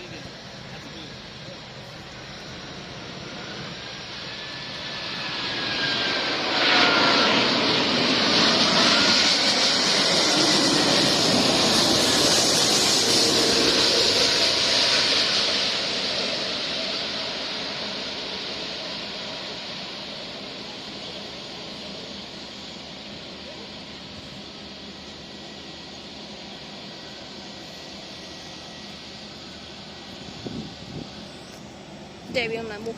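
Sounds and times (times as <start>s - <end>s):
falling jet engine whine: 0.0s - 32.9s
jet airliner roar: 0.0s - 32.9s.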